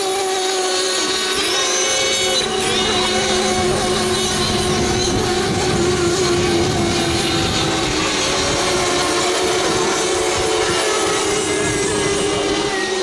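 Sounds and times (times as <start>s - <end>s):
model boat engines whining: 0.0s - 13.0s.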